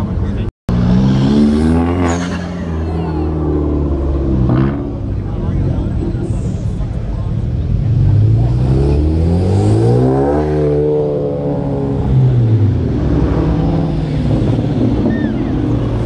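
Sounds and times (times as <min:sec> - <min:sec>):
cars accelerating and revving: 0:00.0 - 0:16.0.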